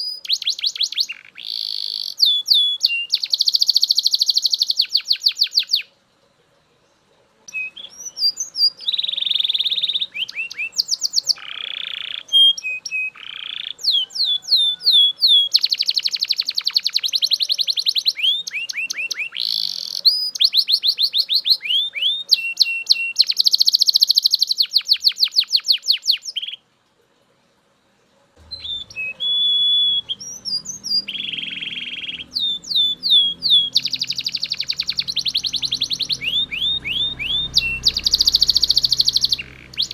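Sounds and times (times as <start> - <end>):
canary singing trills: 0.0 - 26.7, 28.4 - 39.9.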